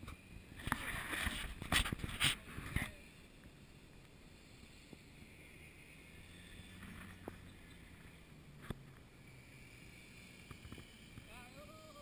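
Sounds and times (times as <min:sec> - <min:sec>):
engine humming at low speed: 0:00.0 - 0:12.0.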